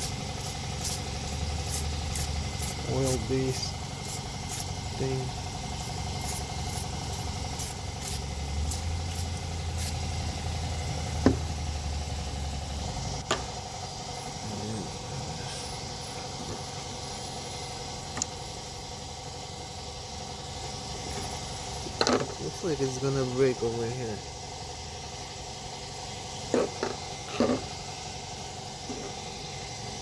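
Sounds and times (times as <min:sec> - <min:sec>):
mechanical hum with low rumble: 0:00.0 - 0:30.0.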